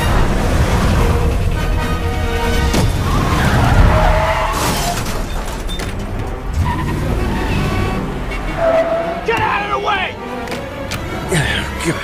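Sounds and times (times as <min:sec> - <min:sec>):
film score music: 0:00.0 - 0:12.0
tyres skidding and squealing: 0:00.0 - 0:12.0.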